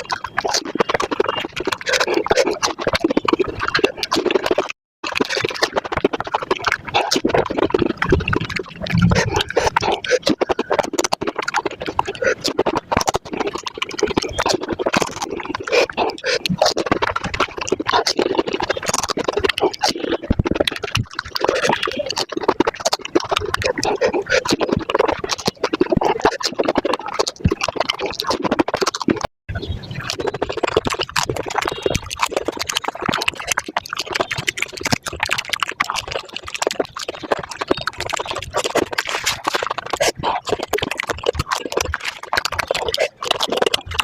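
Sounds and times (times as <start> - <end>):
mouth clicks and smacks: 0.0 - 44.0
water slurping: 0.0 - 44.0.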